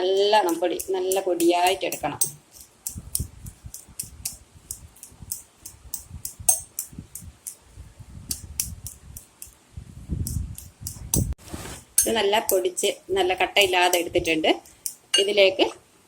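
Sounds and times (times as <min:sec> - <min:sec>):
potatoes being mashed: 0:00.0 - 0:12.9.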